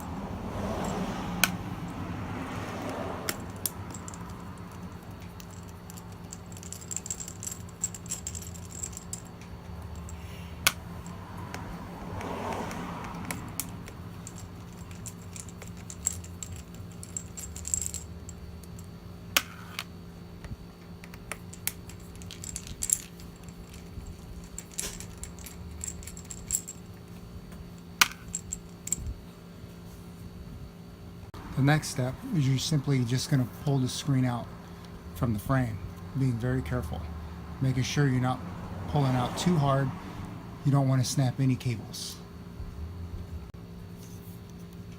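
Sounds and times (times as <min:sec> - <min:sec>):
low hum: 0:00.0 - 0:40.6.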